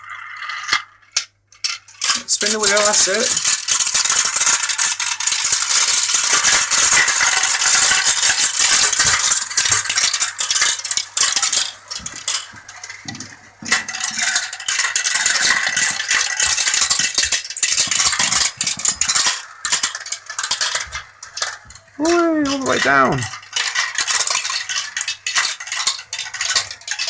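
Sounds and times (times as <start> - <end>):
marbles rattling down a marble run: 1.6 - 27.0.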